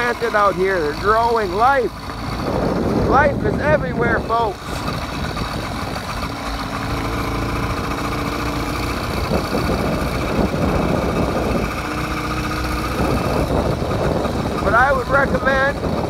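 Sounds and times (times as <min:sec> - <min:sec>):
motorized bike engine running: 0:00.0 - 0:16.0.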